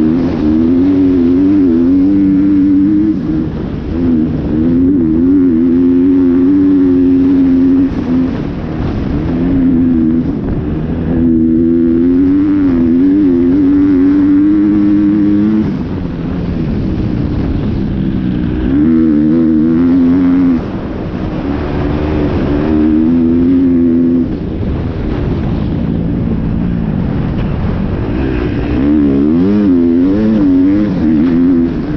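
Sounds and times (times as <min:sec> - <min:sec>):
dirt bike engine at high revs: 0:00.0 - 0:31.9.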